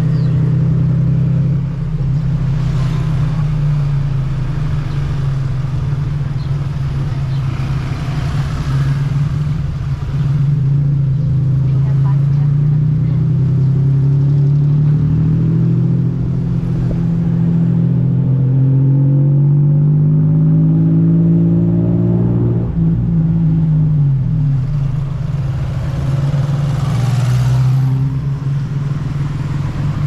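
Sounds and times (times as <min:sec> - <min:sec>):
tuk-tuk engine accelerating: 0:00.0 - 0:30.0.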